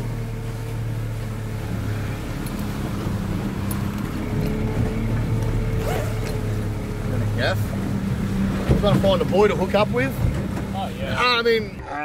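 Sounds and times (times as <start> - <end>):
small boat motor humming: 0.0 - 12.0.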